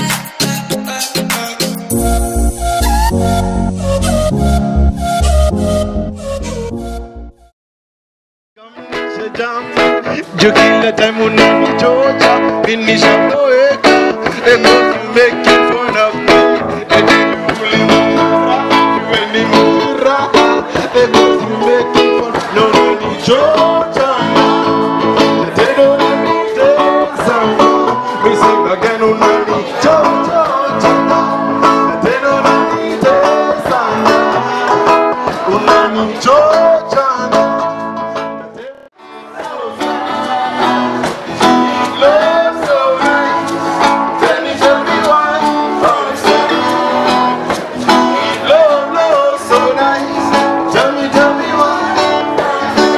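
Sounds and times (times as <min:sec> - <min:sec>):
person singing: 0:00.0 - 0:06.7, 0:08.6 - 0:52.9
live band guitar music: 0:00.0 - 0:07.3, 0:08.6 - 0:52.9.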